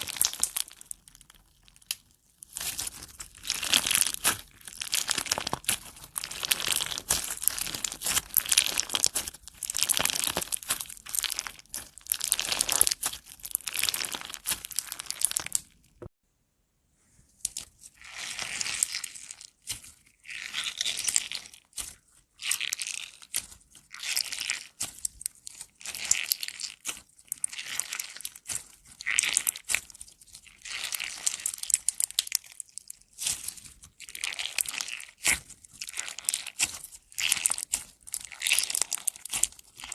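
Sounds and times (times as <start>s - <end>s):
slime squished by hand crackling: 0.0s - 15.7s, 18.0s - 39.9s.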